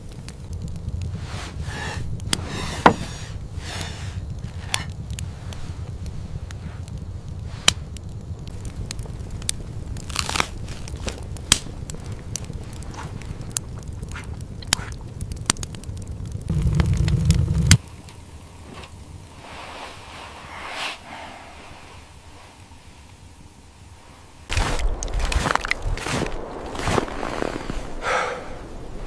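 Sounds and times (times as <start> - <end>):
steady low rumble: 0.0 - 20.5, 23.5 - 29.0
sharp crackles and snaps: 0.0 - 21.1, 21.8 - 29.0.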